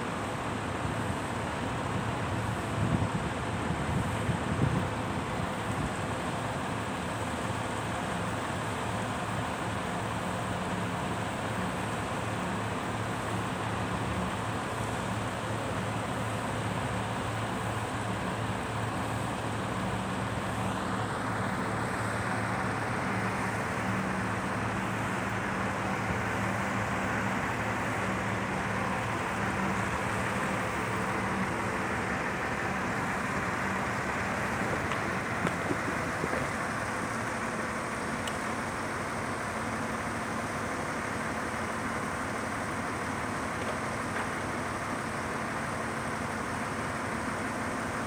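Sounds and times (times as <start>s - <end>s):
diesel engine humming: 0.0s - 48.0s.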